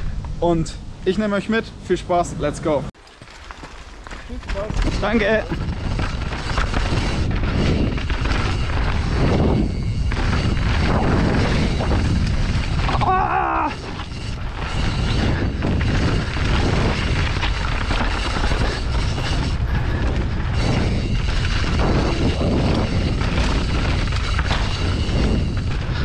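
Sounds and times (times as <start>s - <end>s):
bike tyre and frame rattle: 3.0s - 26.0s
wind buffeting microphone: 4.3s - 26.0s.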